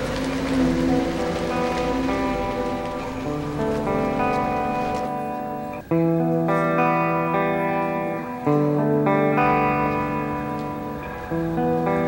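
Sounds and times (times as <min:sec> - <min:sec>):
guitar with effects playing chords: 0:00.0 - 0:12.0.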